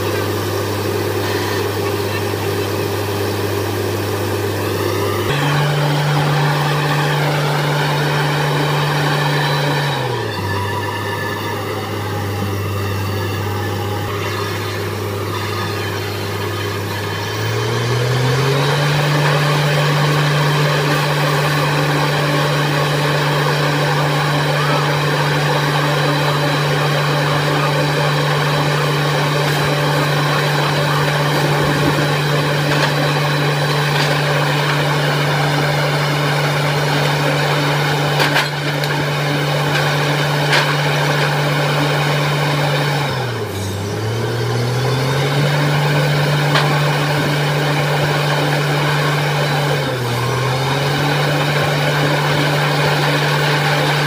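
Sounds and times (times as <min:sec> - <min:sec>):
drilling rig engine running: 0:00.0 - 0:54.0.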